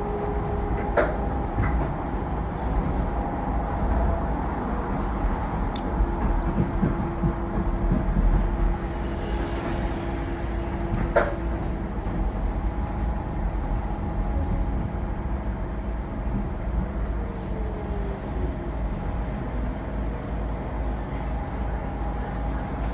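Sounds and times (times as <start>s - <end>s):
train rumbling along track: 0.0s - 22.9s.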